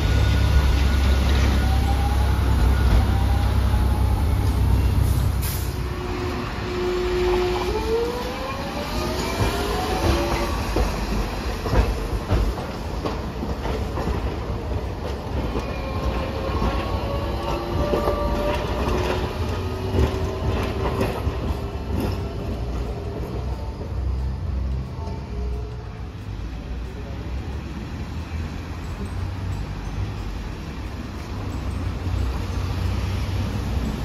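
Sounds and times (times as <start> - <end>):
tram motor whine: 0.0 - 34.0.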